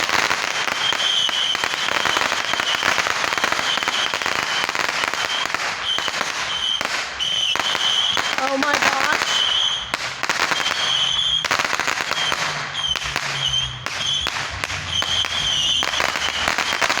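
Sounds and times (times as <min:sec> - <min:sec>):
firecrackers crackling pops: 0:00.0 - 0:17.0.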